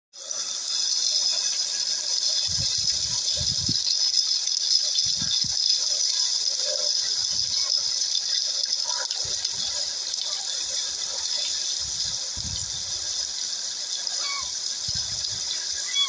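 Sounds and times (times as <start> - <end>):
stream water running over rocks: 0.2 - 16.0.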